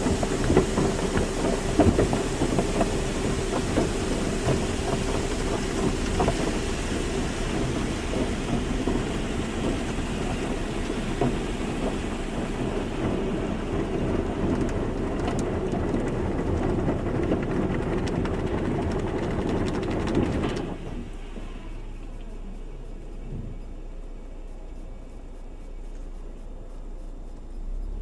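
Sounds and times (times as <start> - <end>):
low mechanical rumble: 0.0 - 28.0
spraying water hiss: 0.0 - 28.0.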